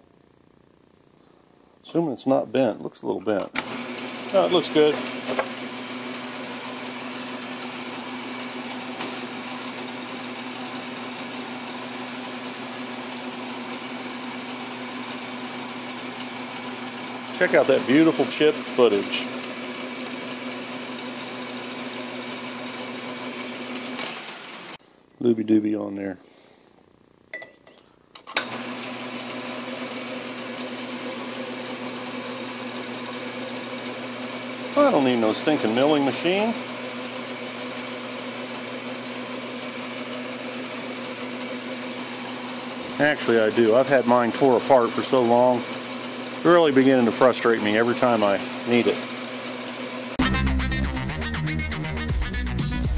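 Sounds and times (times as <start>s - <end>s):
lathe drilling into metal: 3.6s - 24.8s, 28.4s - 49.9s.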